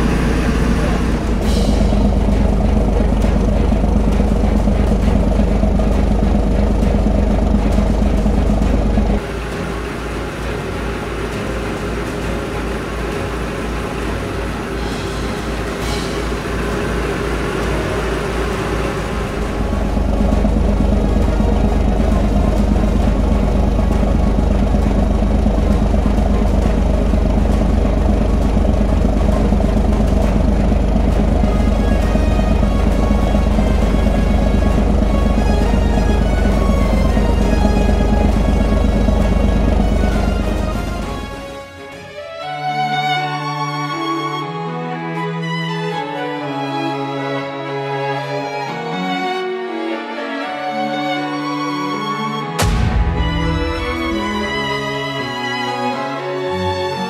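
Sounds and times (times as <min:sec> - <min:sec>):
boat diesel engine running: 0:00.0 - 0:42.1, 0:52.4 - 0:56.1
slowly pulsing engine: 0:00.0 - 0:42.1, 0:51.6 - 0:57.0.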